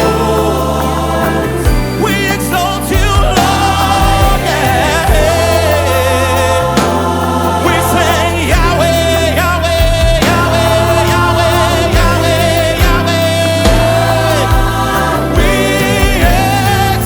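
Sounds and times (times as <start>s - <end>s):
gospel choir singing: 0.0s - 17.0s
keyboards bass and drums: 0.0s - 17.0s.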